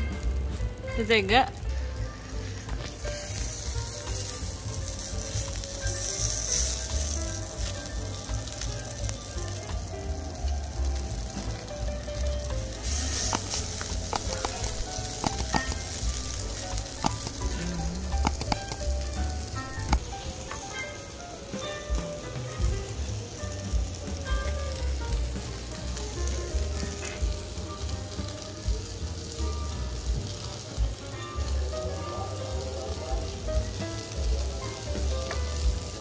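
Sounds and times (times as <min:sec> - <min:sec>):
meat sizzling on a hot plate: 0:00.0 - 0:36.0.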